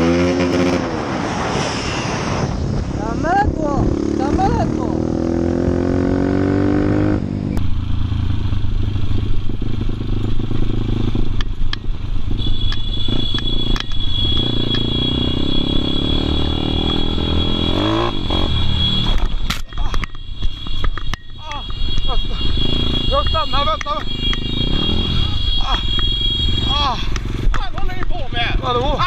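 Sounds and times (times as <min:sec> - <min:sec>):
motorcycle engine revving: 0:00.0 - 0:00.9, 0:03.3 - 0:29.0.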